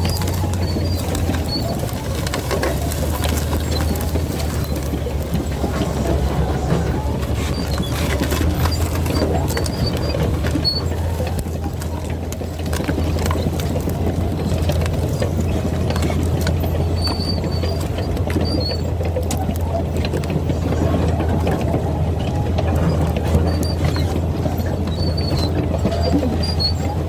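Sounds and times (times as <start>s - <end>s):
bulldozer diesel engine droning: 0.0s - 27.0s.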